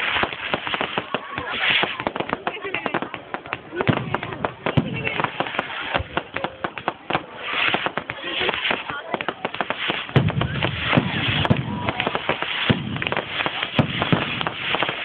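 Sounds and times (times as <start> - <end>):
deep fireworks bangs: 0.0 - 15.0
fireworks crackling pops: 0.0 - 15.0.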